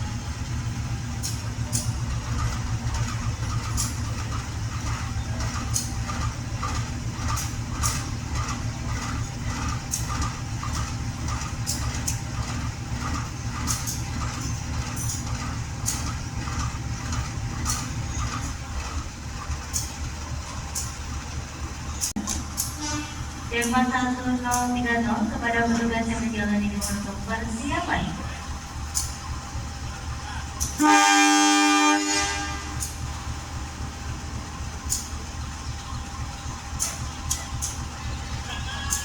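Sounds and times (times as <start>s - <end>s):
diesel locomotive engine rumble: 0.0s - 39.0s.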